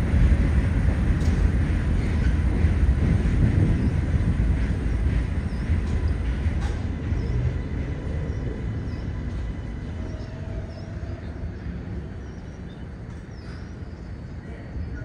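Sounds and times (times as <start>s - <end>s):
subway train rolling on rails: 0.0s - 15.0s.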